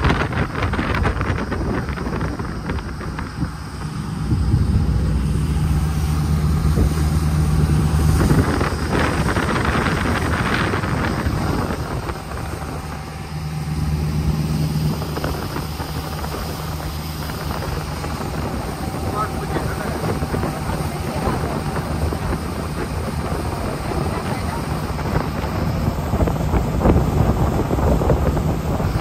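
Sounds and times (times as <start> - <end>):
jet boat engine droning: 0.0 - 29.0
rushing burst of noise: 0.0 - 29.0
wind on microphone: 0.0 - 29.0.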